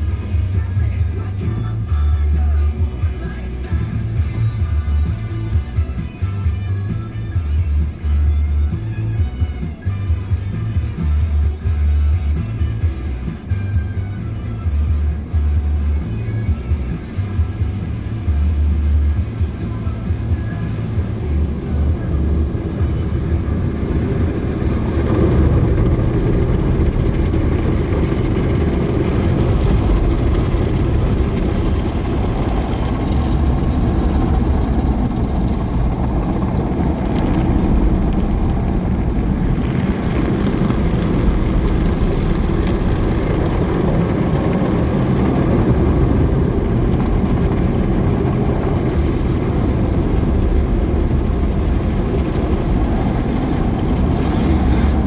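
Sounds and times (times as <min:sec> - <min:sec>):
car wash water jets and machinery: 0:00.0 - 0:55.0.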